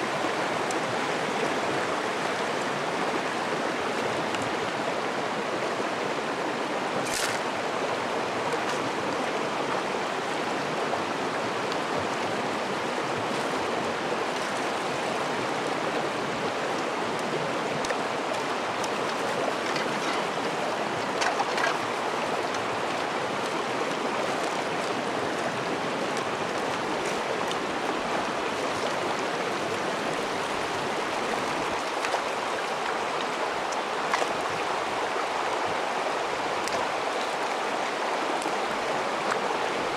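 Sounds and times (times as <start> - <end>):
stony stream running: 0.0 - 39.9.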